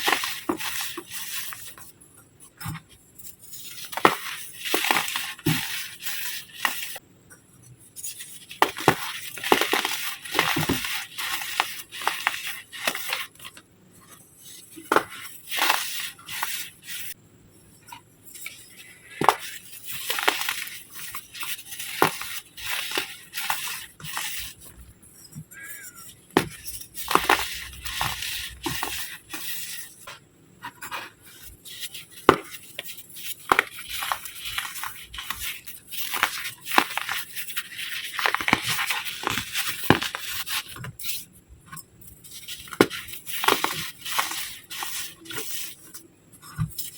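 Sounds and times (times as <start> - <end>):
dry shapes crunching and crumbling: 3.4 - 7.0, 8.1 - 13.6, 17.8 - 46.9.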